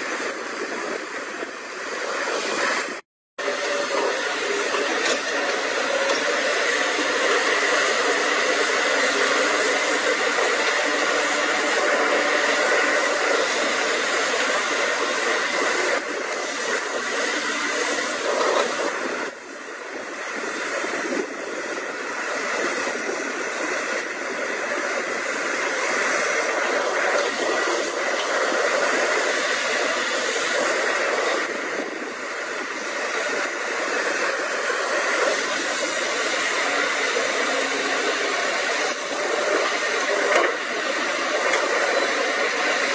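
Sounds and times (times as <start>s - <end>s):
excavator engine and hydraulics droning: 0.0s - 42.9s.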